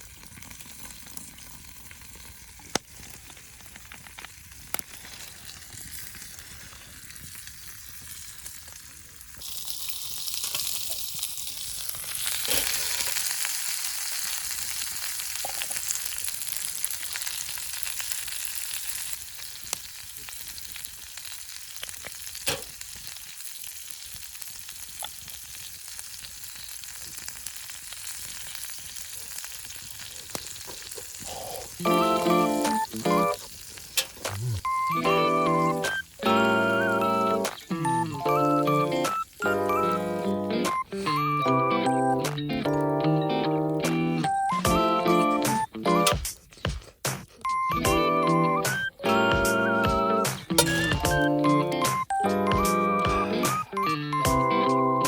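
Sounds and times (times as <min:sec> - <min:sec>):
food sizzling in a hot pan: 0:00.0 - 0:45.8.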